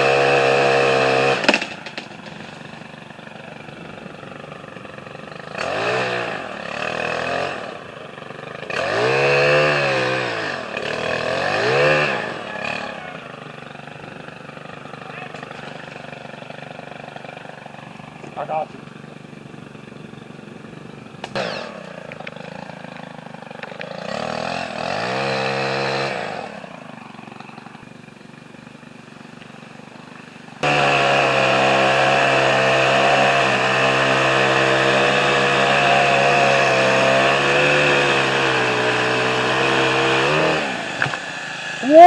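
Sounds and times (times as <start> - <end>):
chainsaw running: 0.0 - 42.0.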